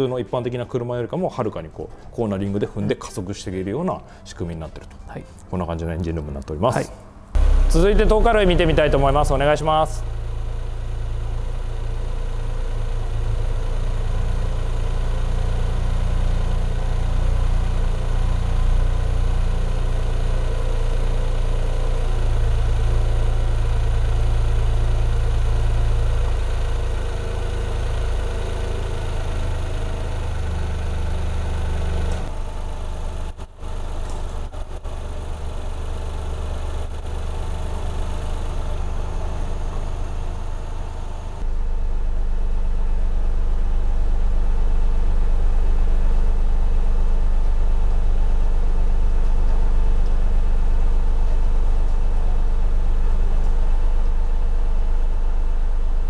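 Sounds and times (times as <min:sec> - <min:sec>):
car engine idling: 0:07.4 - 0:56.0.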